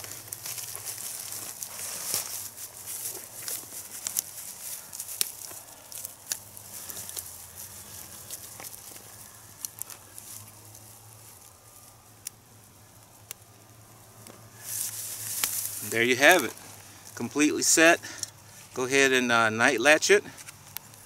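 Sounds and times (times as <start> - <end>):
rustling in dry grass: 0.0 - 21.0.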